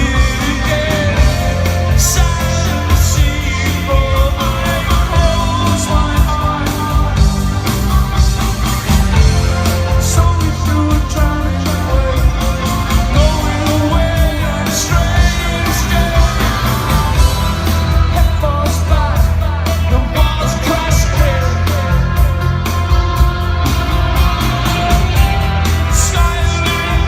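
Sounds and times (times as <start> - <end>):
lead vocals: 0.0 - 23.8, 24.4 - 27.0
rock band playing live: 0.0 - 27.0.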